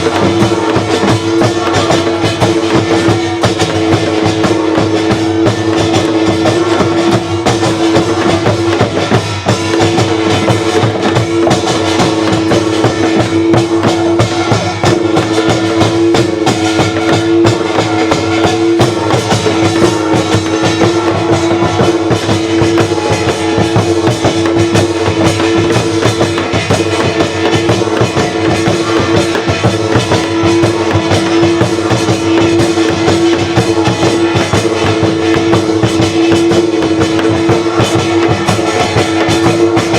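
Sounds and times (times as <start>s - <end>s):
drums and metal percussion: 0.0s - 39.9s.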